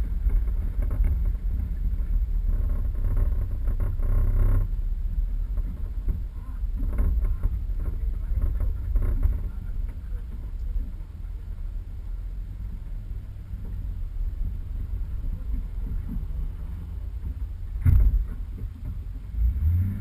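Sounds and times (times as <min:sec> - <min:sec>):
vehicle driving off-road: 0:00.0 - 0:20.0.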